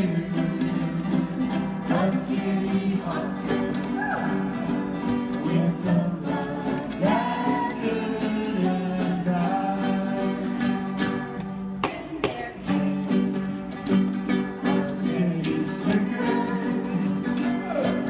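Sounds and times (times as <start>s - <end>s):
strummed guitar or ukulele: 0.0s - 18.0s.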